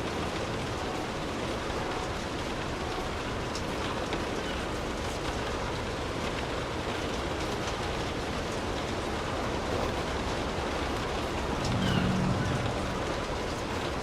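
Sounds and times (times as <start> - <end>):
raindrop ticks: 0.0 - 14.0
steady rainfall: 0.0 - 14.0.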